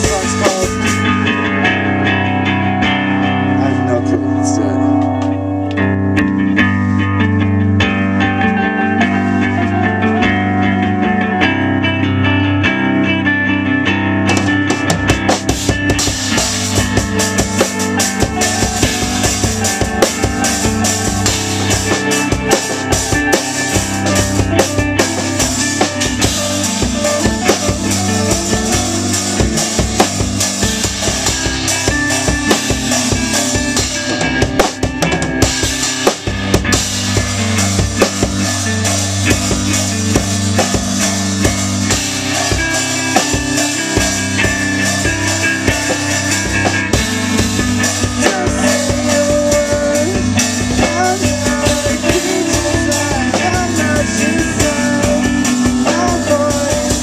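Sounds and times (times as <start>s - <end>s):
drum kit playing: 0.0s - 57.0s
electric guitar: 0.0s - 57.0s.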